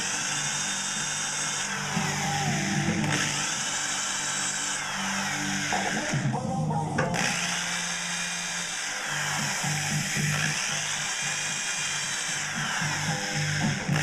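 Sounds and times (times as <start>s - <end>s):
electric drill whining: 0.0s - 14.0s.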